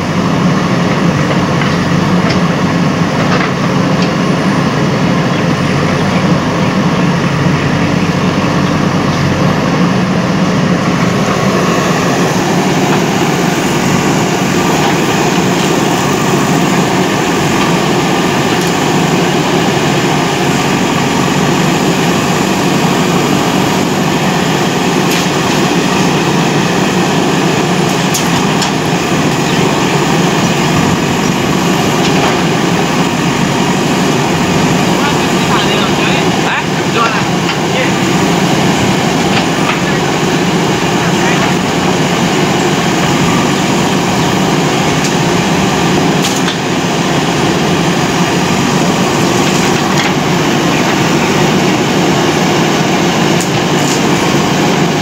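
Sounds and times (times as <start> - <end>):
backhoe digging into earth: 0.0 - 55.0
diesel engine running loudly: 0.0 - 55.0.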